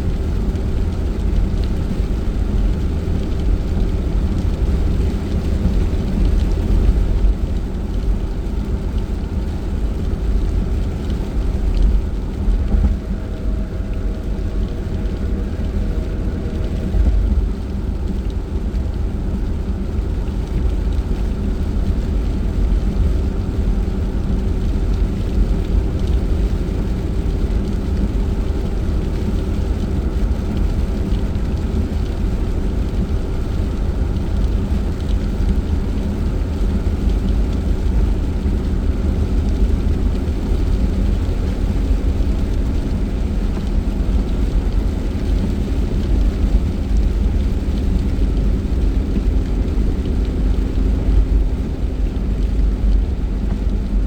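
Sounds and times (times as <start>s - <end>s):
car engine hum: 0.0s - 54.0s
road rumble: 0.0s - 54.0s.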